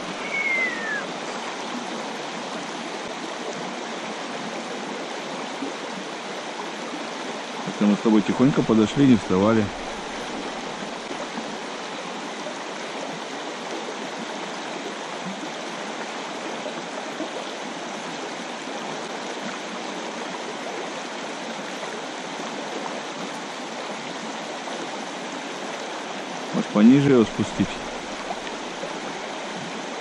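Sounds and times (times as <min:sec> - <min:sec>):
river rushing over stones: 0:00.0 - 0:30.0.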